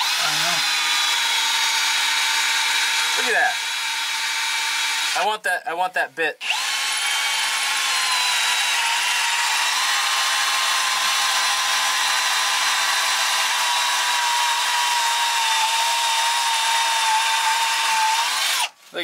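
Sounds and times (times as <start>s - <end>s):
cordless drill boring into steel: 0.0s - 5.2s, 6.4s - 18.7s.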